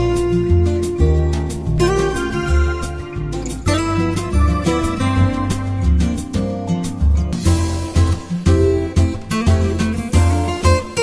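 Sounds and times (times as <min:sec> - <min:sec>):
guitar music over bass beat: 0:00.0 - 0:11.0.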